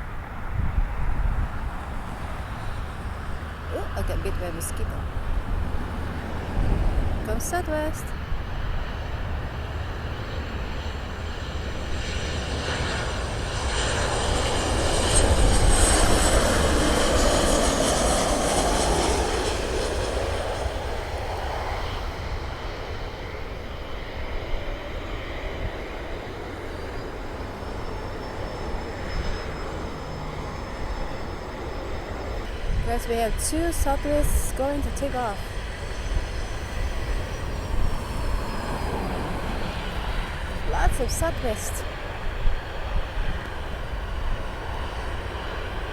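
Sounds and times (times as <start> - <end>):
jet engines on approach: 0.0 - 45.9.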